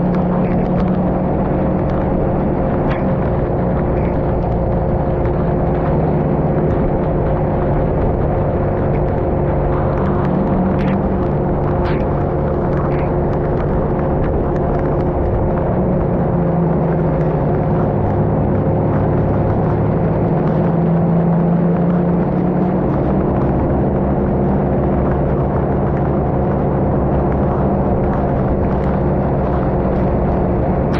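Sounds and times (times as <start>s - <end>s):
car engine and road noise: 0.0s - 30.9s
rain ticking: 0.0s - 30.9s.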